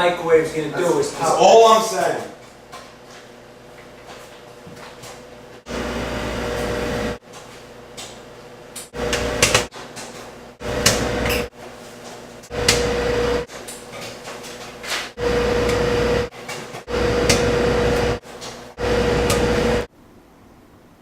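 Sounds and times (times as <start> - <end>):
microwave oven humming: 2.6 - 19.9.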